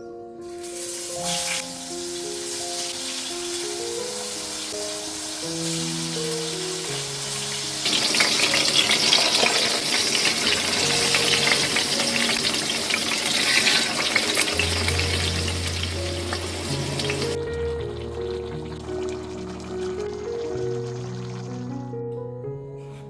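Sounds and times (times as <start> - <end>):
soft background music: 0.0 - 23.0
food sizzling in a pan: 0.5 - 21.7.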